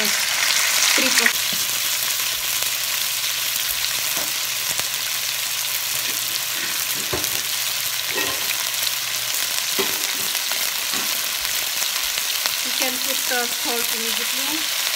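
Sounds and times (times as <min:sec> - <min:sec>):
chicken sizzling in hot oil: 0:00.0 - 0:14.9.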